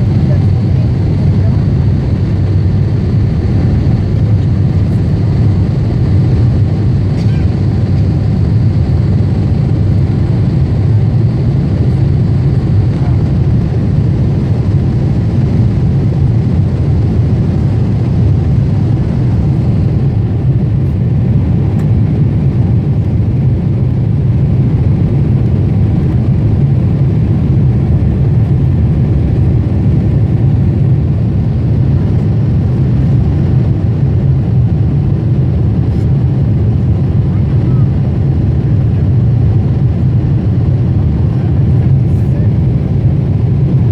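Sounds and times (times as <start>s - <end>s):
airliner cabin low rumble: 0.0s - 43.9s.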